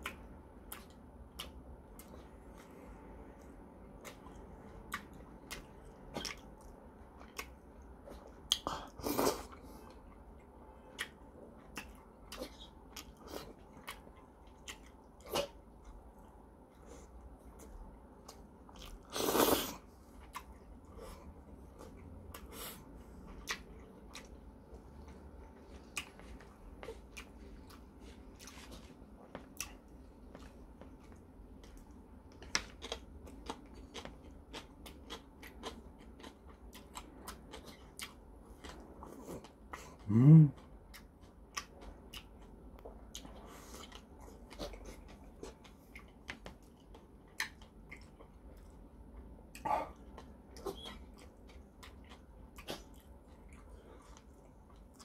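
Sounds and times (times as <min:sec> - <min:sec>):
wet chewing of noodles: 0:00.0 - 0:55.0.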